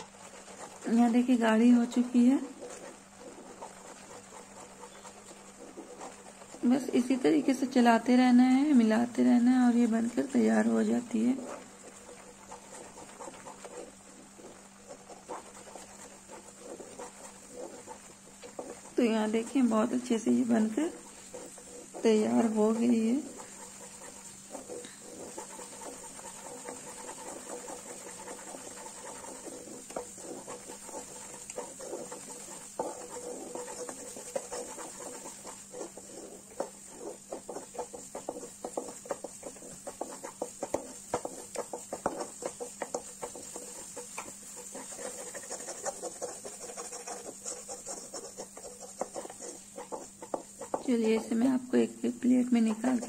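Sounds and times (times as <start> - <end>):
steady low hum: 0.0 - 53.0
wooden spatula scraping pan: 0.0 - 53.0.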